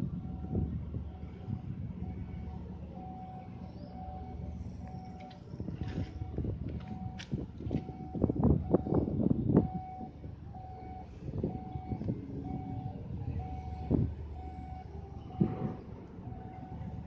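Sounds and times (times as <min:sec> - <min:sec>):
low rumble: 0:00.0 - 0:17.0
reversing alarm beeping: 0:00.1 - 0:17.0.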